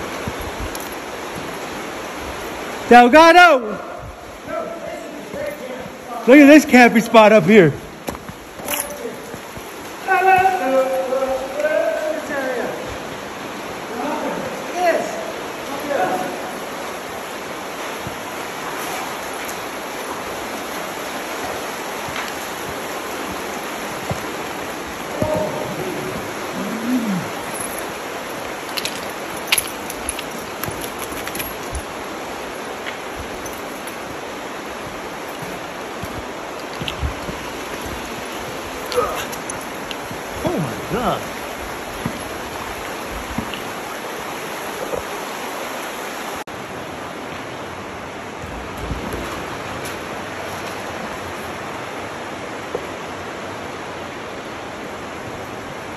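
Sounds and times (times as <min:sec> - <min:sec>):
creek water rushing over rocks: 0:00.0 - 0:55.9.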